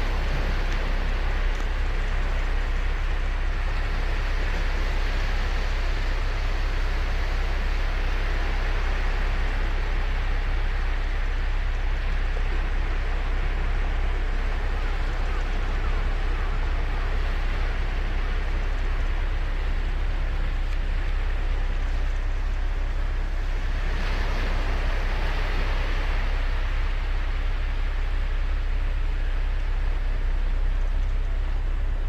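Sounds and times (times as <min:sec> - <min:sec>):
ocean waves breaking: 0:00.0 - 0:32.0.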